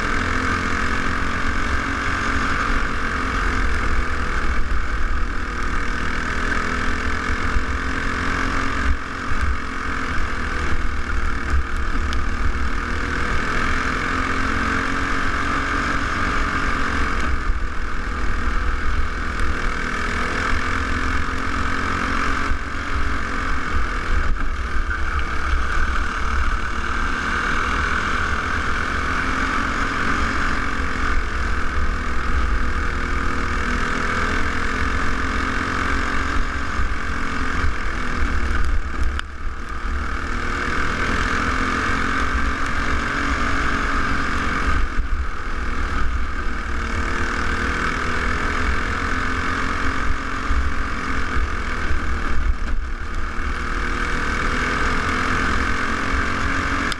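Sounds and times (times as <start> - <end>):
kart engine running hard: 0.0 - 56.9.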